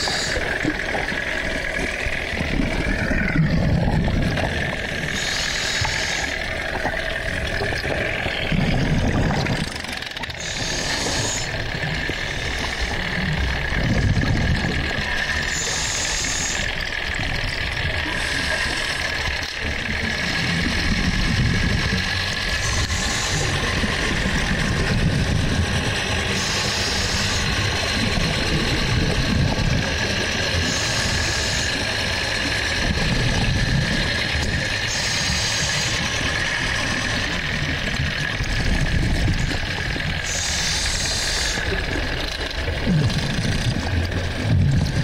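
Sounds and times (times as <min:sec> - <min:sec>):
diver exhaling regulator bubbles: 0:00.0 - 0:45.0
underwater engine drone: 0:00.0 - 0:45.0.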